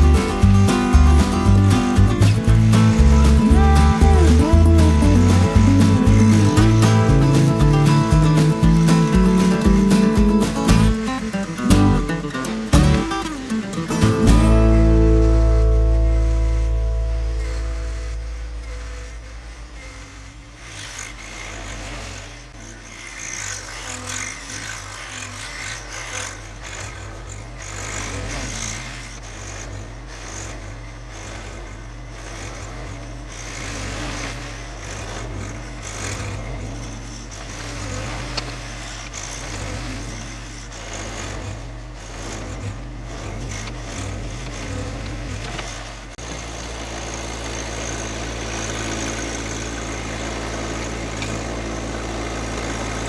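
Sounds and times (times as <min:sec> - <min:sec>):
tractor diesel engine running: 0:00.0 - 0:22.5, 0:26.8 - 0:53.0.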